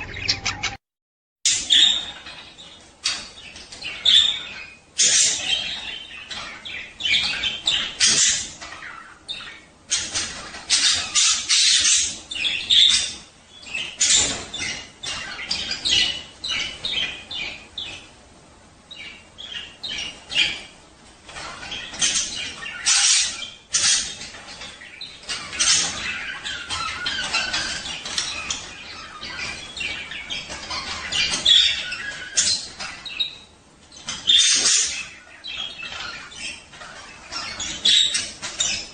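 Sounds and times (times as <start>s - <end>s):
budgerigars chirping and squawking: 0.0s - 0.8s, 1.5s - 38.9s.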